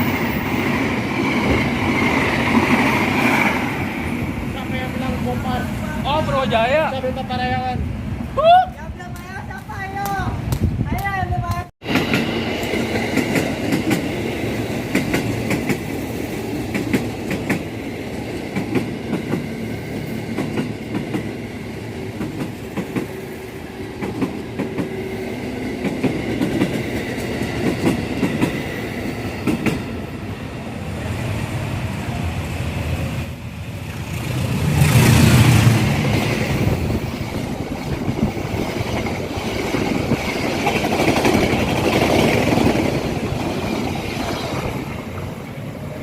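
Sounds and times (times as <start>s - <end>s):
train rumbling past: 0.0s - 46.0s.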